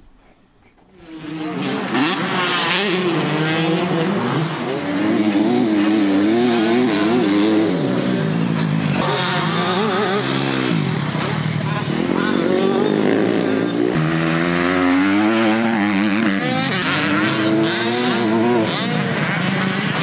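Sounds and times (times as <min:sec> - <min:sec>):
motocross bike engine revving: 0:01.0 - 0:20.0.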